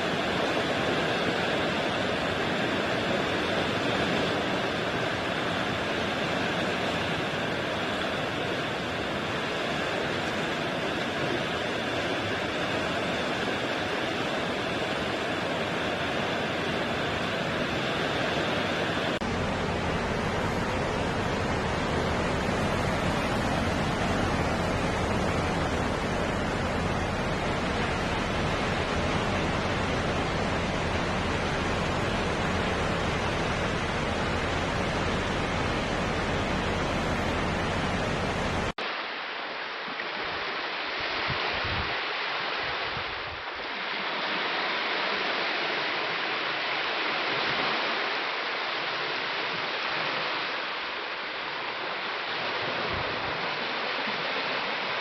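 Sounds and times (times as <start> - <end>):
dull water sound: 0.0 - 55.0
ocean surf on shore: 0.0 - 55.0.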